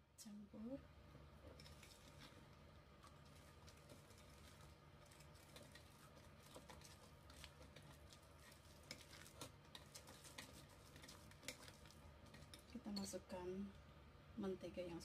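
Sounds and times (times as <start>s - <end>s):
low steady hum: 0.0s - 15.0s
utensil stirring batter in bowl: 1.1s - 13.4s.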